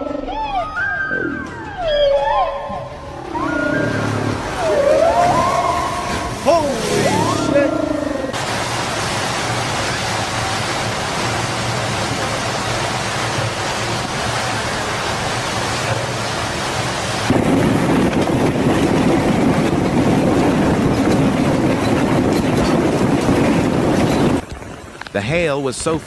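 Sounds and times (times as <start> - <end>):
wind: 0.0 - 26.0
heavy rain: 1.7 - 26.0.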